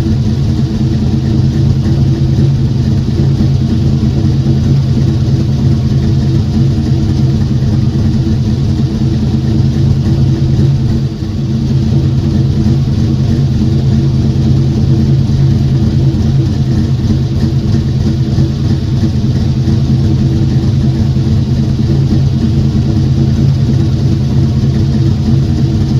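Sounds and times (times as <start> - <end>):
car engine running: 0.0 - 25.9.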